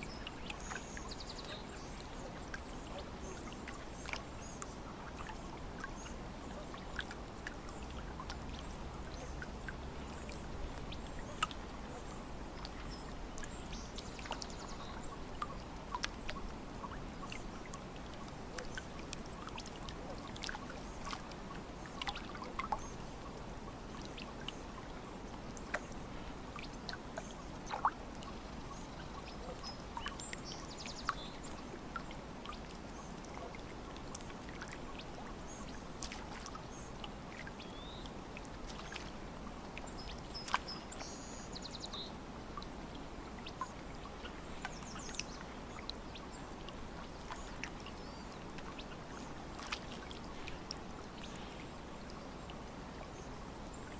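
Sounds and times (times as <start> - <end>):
lake water lapping at shore: 0.0 - 53.9.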